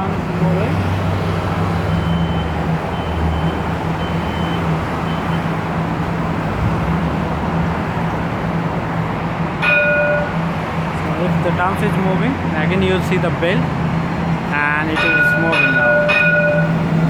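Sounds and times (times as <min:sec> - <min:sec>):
traffic: 0:00.0 - 0:17.0
tram rumbling: 0:00.0 - 0:17.0.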